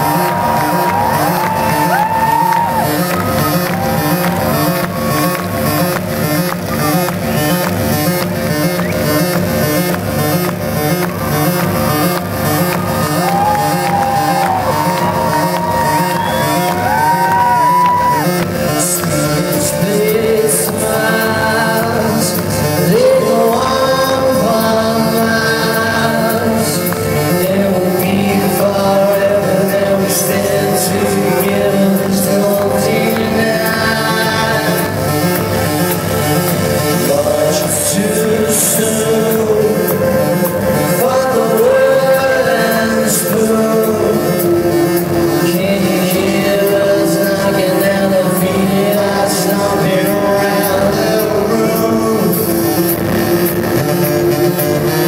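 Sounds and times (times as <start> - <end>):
person singing: 0.0 - 55.0.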